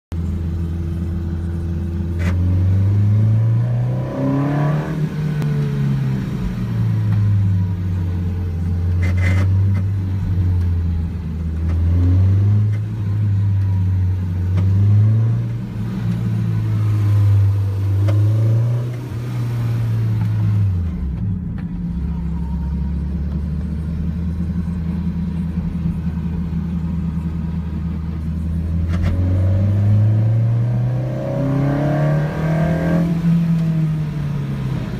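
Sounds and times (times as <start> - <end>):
car engine revving and idling: 0.1 - 34.9.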